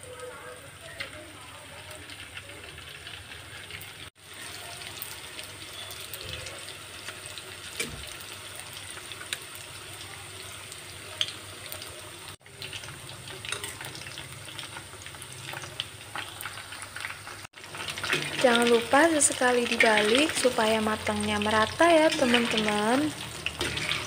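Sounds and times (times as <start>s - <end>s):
oil crackles and pops: 0.0s - 10.2s, 11.0s - 20.6s
chicken deep-frying in oil: 0.0s - 24.0s.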